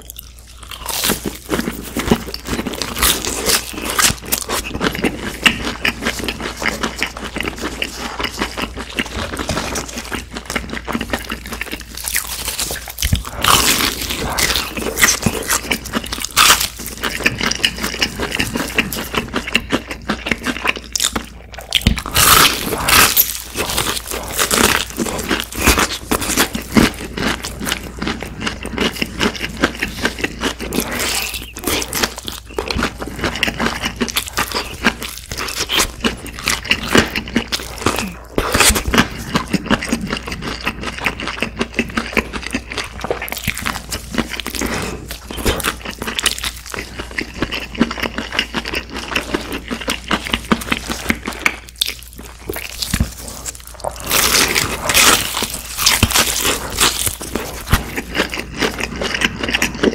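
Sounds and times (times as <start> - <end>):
crunching bites of fried chicken: 0.0 - 59.9
wet chewing: 0.0 - 59.9.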